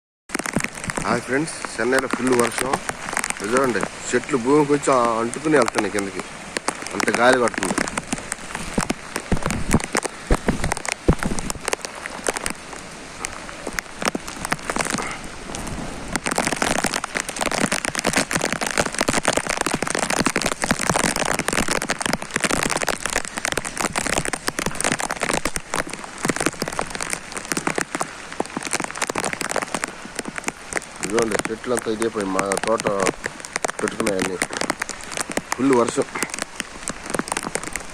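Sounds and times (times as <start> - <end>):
heavy rain pouring: 0.3 - 37.9.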